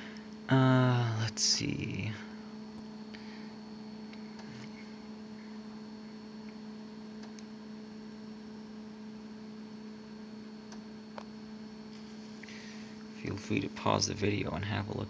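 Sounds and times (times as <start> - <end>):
faint high whine: 0.0 - 15.0
low electrical hum: 0.0 - 15.0.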